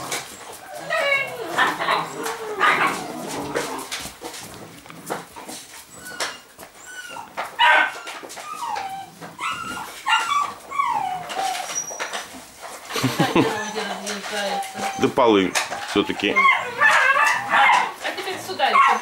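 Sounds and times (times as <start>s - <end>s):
puppy whimpering: 0.0s - 19.0s.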